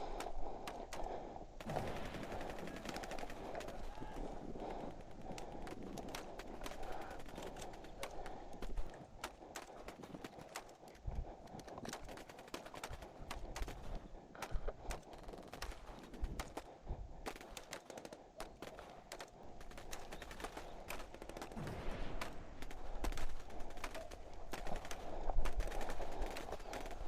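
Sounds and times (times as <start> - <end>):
airsoft guns firing cracks: 1.6 - 10.8, 14.4 - 27.0.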